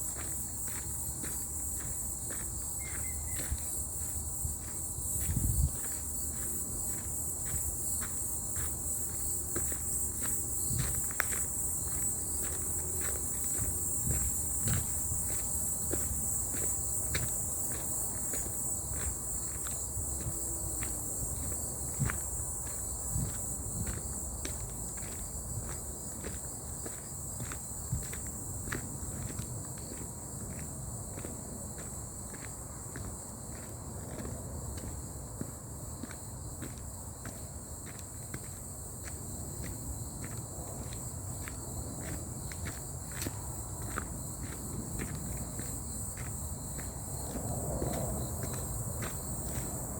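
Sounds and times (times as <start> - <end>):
footsteps on forest path: 0.0 - 49.8
high-pitched insect chorus: 0.0 - 49.9.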